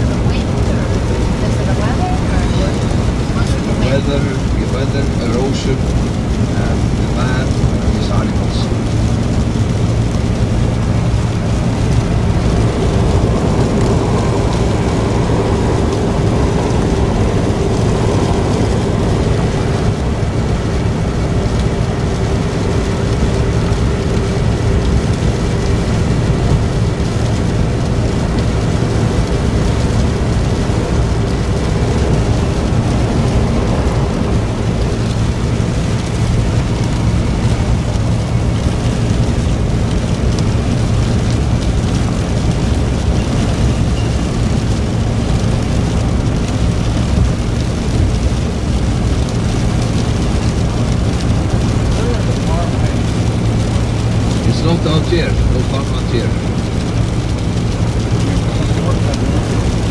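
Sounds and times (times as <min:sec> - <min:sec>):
vehicle driving on wet road: 0:00.0 - 0:59.9.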